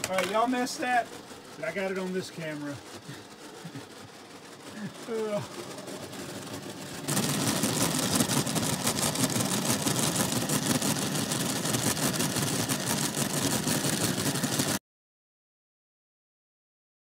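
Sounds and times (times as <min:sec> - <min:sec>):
model train whirring and rattling: 0:00.0 - 0:14.8.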